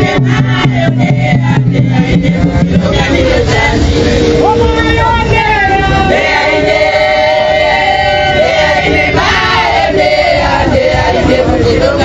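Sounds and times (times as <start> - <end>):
group singing long notes: 0.0 - 12.0.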